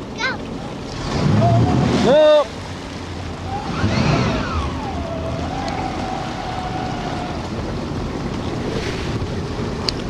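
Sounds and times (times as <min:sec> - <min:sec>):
motorboat running: 0:00.0 - 0:10.0
water rushing past: 0:00.0 - 0:10.0
wind buffeting microphone: 0:01.0 - 0:10.0.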